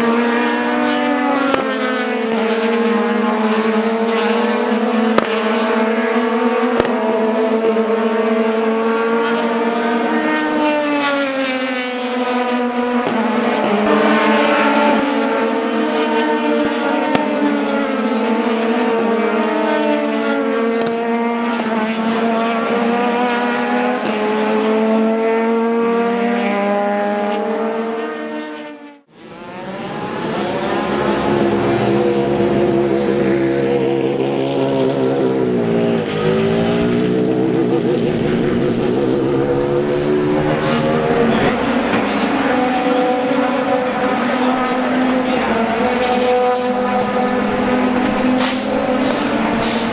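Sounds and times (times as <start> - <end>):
race car engines at high revs: 0.0 - 49.9.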